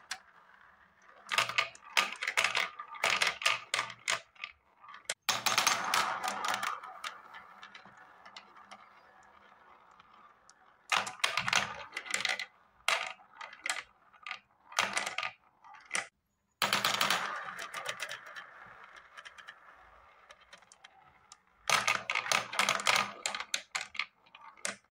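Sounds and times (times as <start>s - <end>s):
balls clattering in plastic marble run: 0.0s - 24.9s.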